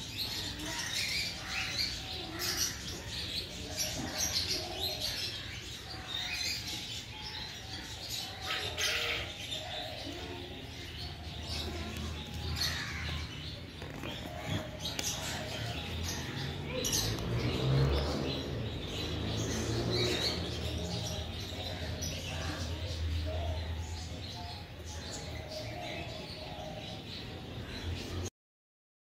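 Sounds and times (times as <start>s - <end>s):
birds chirping: 0.0s - 28.3s.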